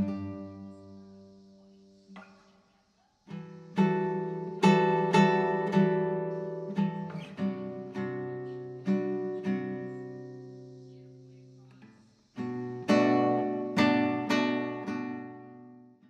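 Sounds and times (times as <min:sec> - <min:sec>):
acoustic guitar strumming chords: 0:00.0 - 0:02.4, 0:03.3 - 0:16.0.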